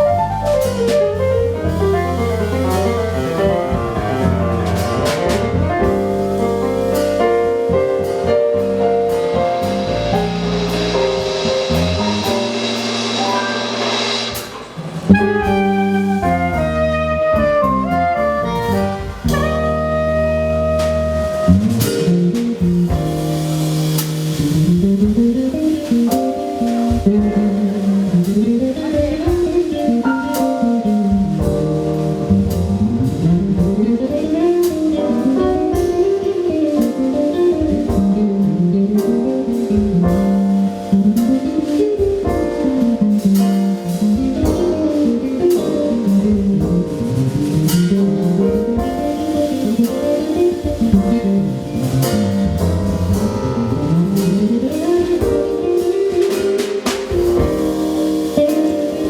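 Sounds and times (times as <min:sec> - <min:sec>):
drum kit: 0:00.0 - 0:59.0
jazz band playing: 0:00.0 - 0:59.0
swooping lead melody: 0:00.0 - 0:59.0.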